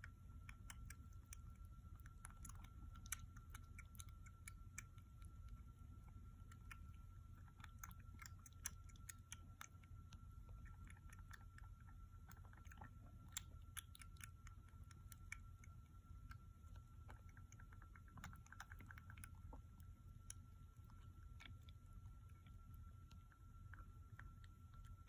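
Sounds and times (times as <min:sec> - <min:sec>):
kitten suckling from a bottle: 0:00.1 - 0:25.0.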